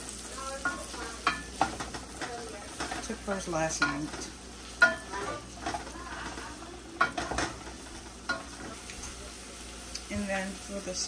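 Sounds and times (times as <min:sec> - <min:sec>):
onions sizzling in a saucepan: 0:00.0 - 0:11.0.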